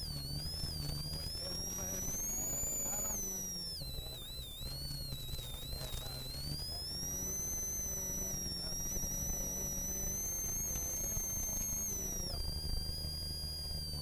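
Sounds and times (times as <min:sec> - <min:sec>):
high turbo whine: 0:00.0 - 0:14.0.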